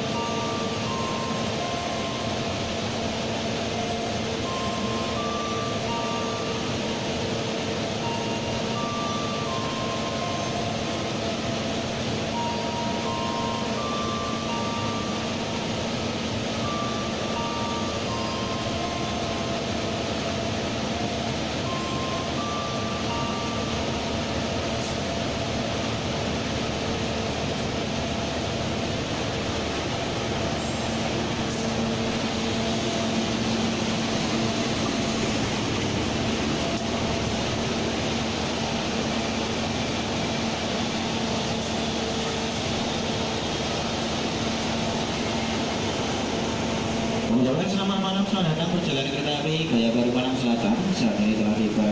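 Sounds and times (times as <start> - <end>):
train engine hum: 0.0 - 51.9.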